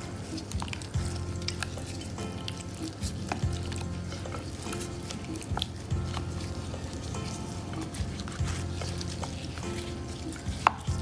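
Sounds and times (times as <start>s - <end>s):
wet squelching of raw meat: 0.0s - 11.0s.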